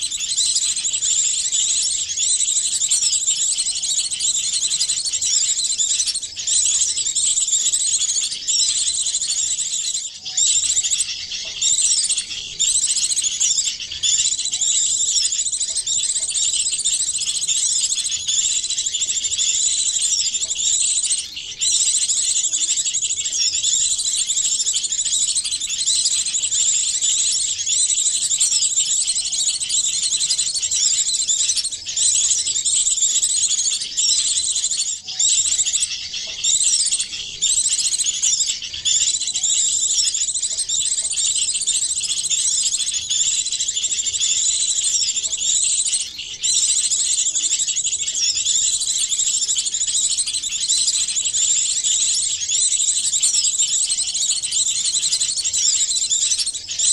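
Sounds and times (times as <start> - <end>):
small songbirds chirping: 0.0 - 56.9.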